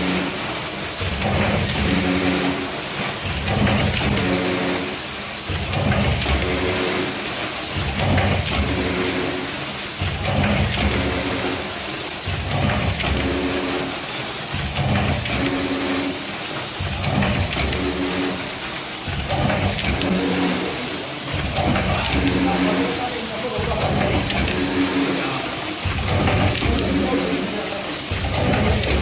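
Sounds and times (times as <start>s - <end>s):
packaging machine rumble: 0.0s - 29.0s.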